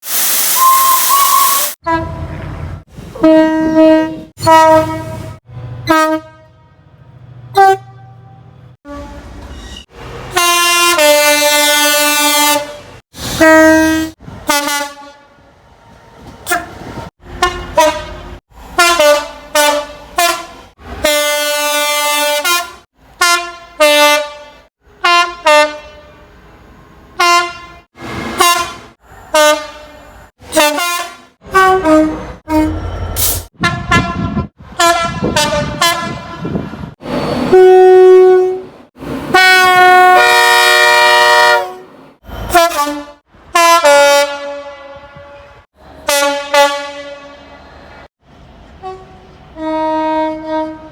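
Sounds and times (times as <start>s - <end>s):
train horn blasts: 0.6s - 2.5s, 3.1s - 6.9s, 7.5s - 9.4s, 10.3s - 15.4s, 16.5s - 26.4s, 27.2s - 36.8s, 37.4s - 41.9s, 42.5s - 47.6s, 48.8s - 50.9s.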